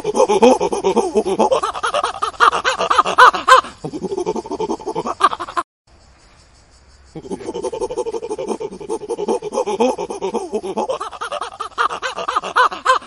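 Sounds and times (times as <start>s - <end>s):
ape panting hoots and cries: 0.0s - 5.6s, 7.2s - 13.0s.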